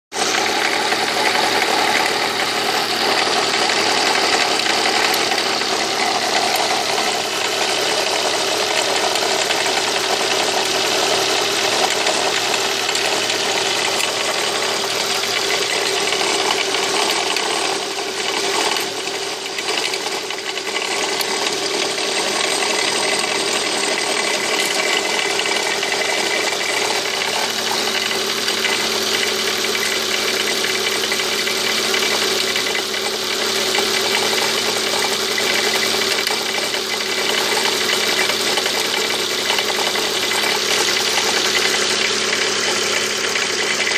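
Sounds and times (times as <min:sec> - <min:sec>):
car engine running: 0:00.1 - 0:43.9
weird engine noise: 0:00.1 - 0:43.9.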